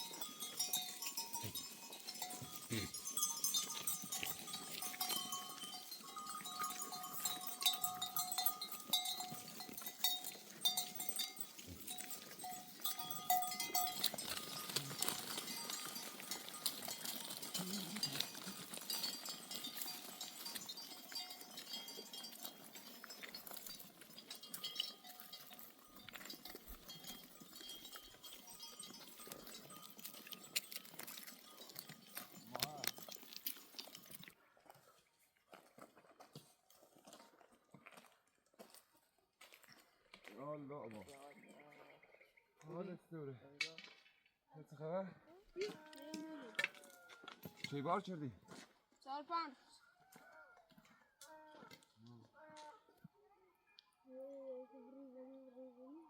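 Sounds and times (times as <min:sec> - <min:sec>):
animal bells clinking and ringing: 0:00.0 - 0:34.6, 0:35.6 - 0:42.8, 0:45.5 - 0:56.0.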